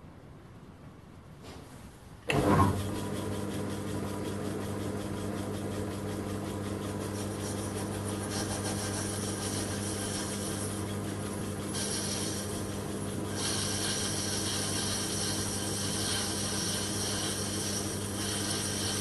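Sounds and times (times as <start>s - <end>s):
lathe motor running: 2.3s - 19.0s.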